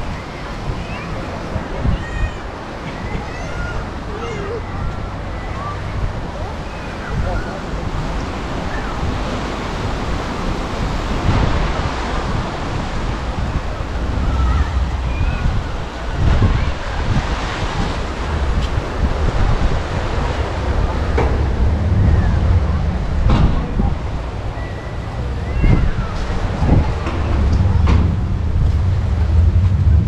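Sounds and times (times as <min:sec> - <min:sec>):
waves washing onto beach: 0:00.0 - 0:30.0
wind rumbling on microphone: 0:00.0 - 0:30.0.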